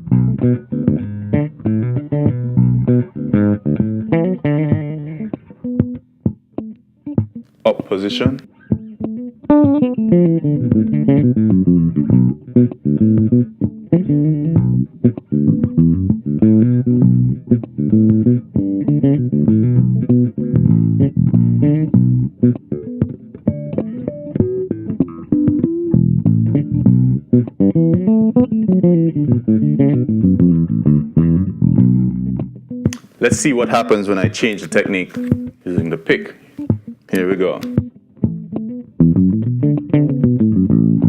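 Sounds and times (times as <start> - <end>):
electric bass plucked fingerstyle: 0.0 - 41.0.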